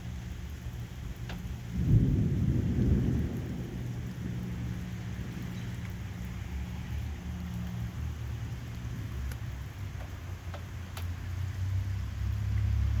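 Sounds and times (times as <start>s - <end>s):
distant thunder rumbling: 0.0s - 13.0s.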